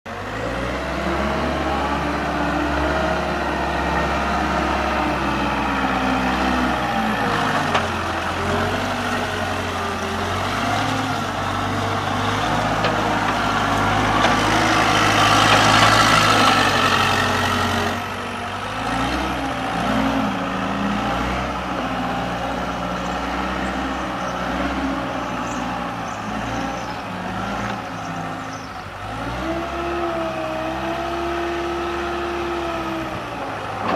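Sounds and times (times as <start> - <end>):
skid steer engine running: 0.1 - 33.9.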